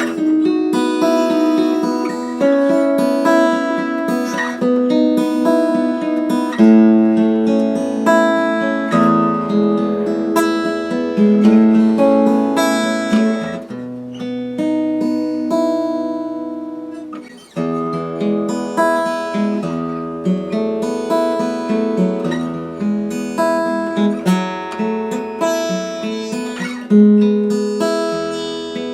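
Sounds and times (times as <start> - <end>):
acoustic guitar strumming chords: 0.0 - 28.9.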